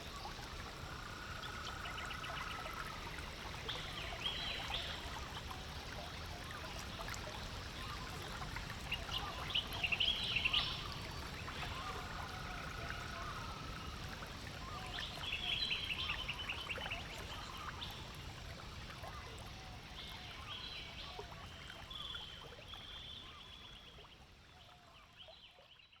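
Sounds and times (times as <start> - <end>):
water trickling and lapping: 0.0 - 25.8.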